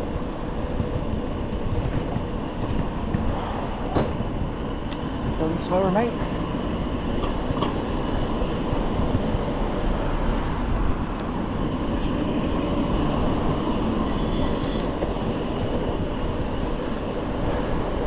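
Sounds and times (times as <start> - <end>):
bicycle tyre rumble on road: 0.0 - 6.7, 7.3 - 18.0
wind on microphone: 0.0 - 18.0.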